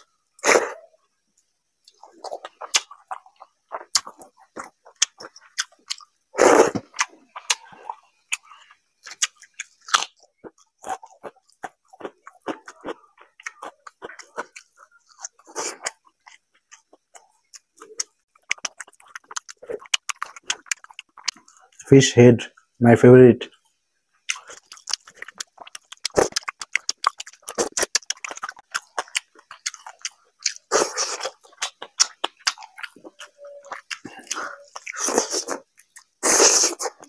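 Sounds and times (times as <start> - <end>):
wet chewing and lip smacking: 1.8 - 21.8, 24.2 - 37.0.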